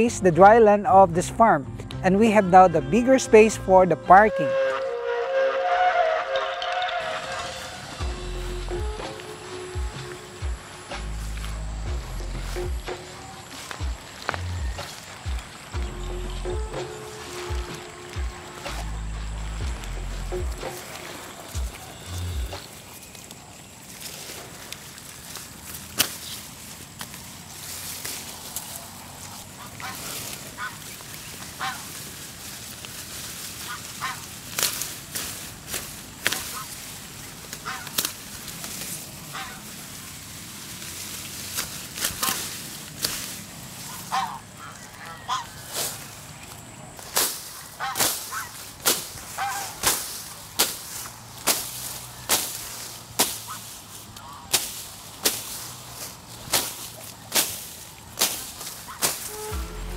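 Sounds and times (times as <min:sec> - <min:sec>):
farm fowl calling: 0:02.6 - 0:59.9
blade cutting tall grass: 0:07.0 - 0:15.8, 0:16.6 - 0:44.7, 0:45.3 - 0:59.9.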